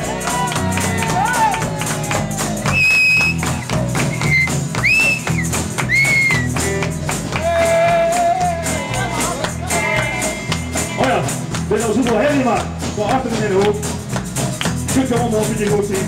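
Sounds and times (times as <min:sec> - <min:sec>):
bass: 0:00.0 - 0:16.0
guitar: 0:00.0 - 0:16.0
steady drum beat: 0:00.0 - 0:16.0.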